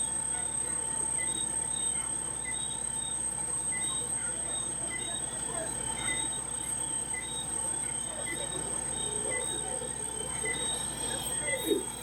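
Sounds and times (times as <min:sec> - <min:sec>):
cricket chirps: 0:00.0 - 0:12.0
insects trilling: 0:00.0 - 0:12.0.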